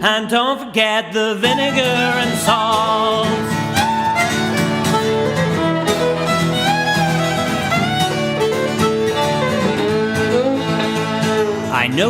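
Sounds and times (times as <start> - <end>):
strummed acoustic guitar: 0.0 - 12.0
violin melody: 1.4 - 12.0.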